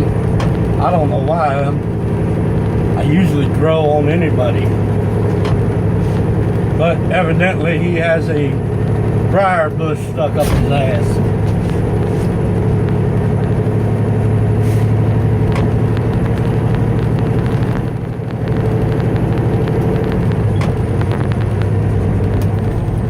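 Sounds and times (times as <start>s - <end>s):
truck diesel engine running: 0.0s - 23.0s.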